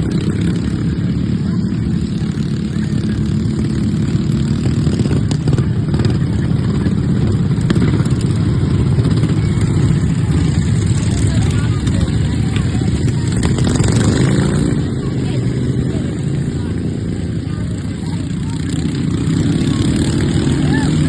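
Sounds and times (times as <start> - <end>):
lawnmower engines racing: 0.0 - 21.0.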